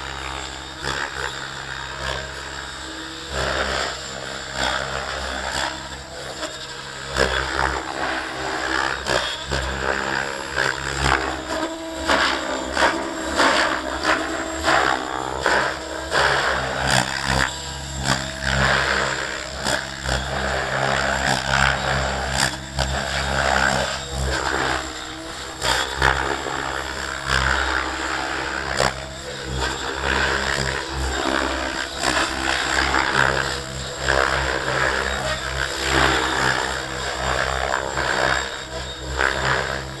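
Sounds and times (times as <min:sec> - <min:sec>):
model helicopter rotor: 0:00.0 - 0:40.0.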